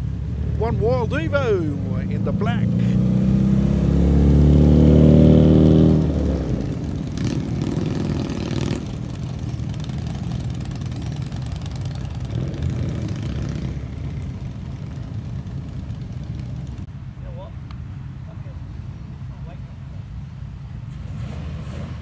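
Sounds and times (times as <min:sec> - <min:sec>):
steady rumble of running engines: 0:00.0 - 0:22.0.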